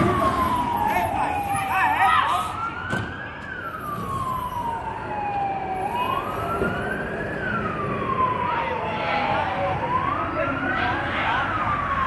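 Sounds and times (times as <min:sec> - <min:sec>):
police siren wailing: 0:00.0 - 0:12.0.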